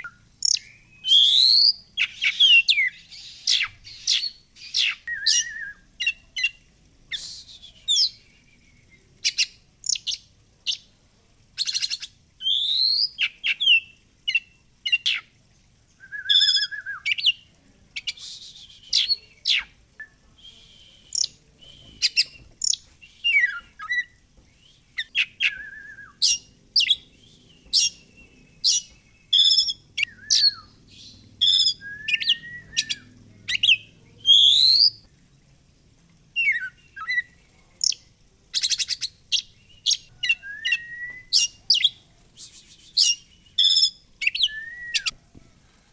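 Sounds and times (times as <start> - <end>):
songbird singing whistled phrases: 0.0 - 10.9, 11.6 - 15.3, 16.0 - 35.0, 36.4 - 45.2.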